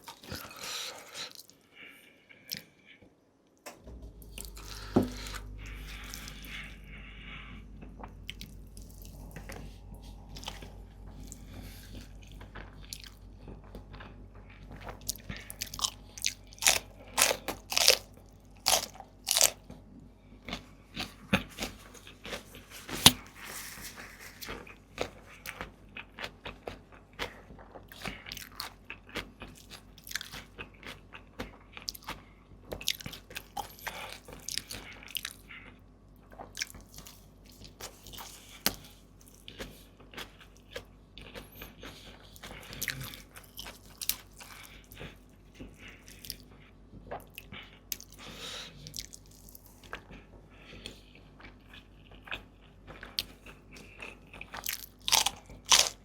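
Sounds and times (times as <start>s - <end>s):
crunchy chewing: 4.3s - 19.8s, 20.4s - 56.0s.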